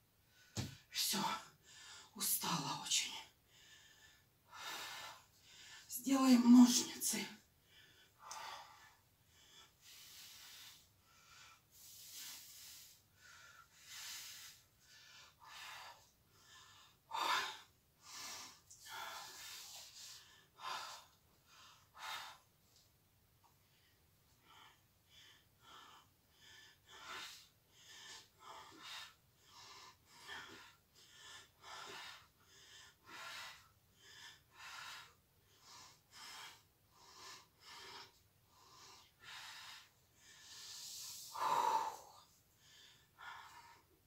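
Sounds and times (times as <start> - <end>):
woman breathing hard: 3.4 - 5.9, 7.4 - 22.6, 23.5 - 44.0.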